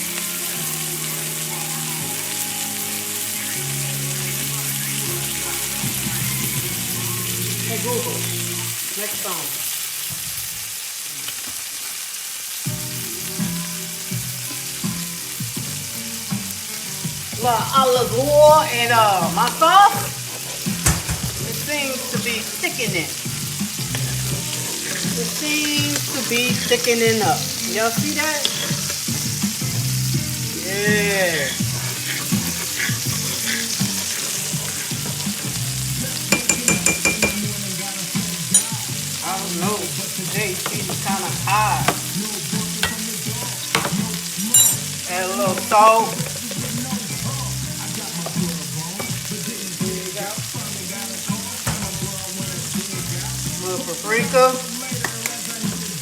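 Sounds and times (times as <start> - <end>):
song with bass and beat: 0.0 - 8.8, 12.7 - 56.0
food sizzling in a pan: 0.0 - 56.0.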